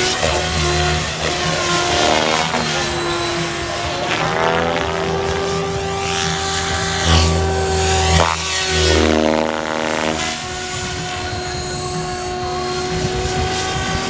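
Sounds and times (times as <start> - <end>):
low rush of blade noise: 0.0 - 14.0
rc helicopter whine: 0.0 - 14.0.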